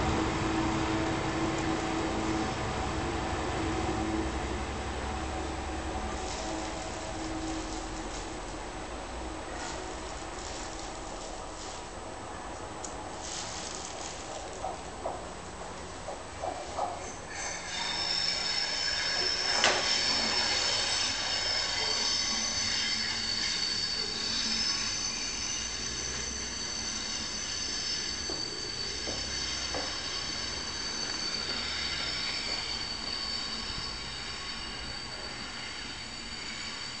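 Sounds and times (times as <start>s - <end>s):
locomotive engine rumble: 0.0s - 36.9s
train wheel squeal: 0.1s - 12.5s, 13.1s - 37.0s.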